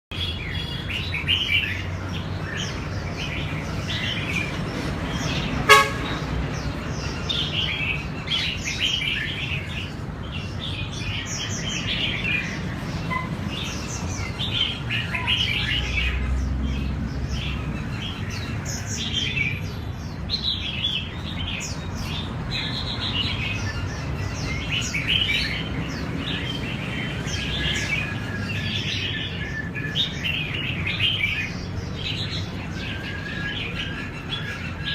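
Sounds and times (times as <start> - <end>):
bulbuls singing: 0.1 - 34.9.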